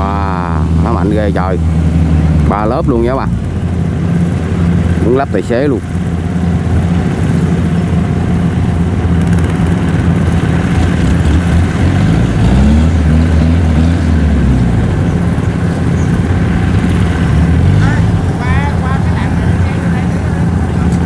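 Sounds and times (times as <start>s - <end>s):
tractor engine under heavy load: 0.0s - 21.0s.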